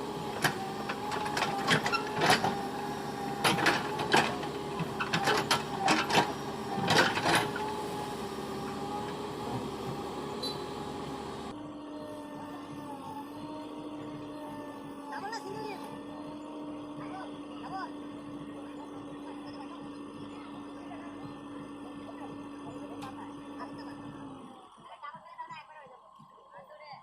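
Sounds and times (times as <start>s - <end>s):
small motor whining: 0.0s - 25.2s.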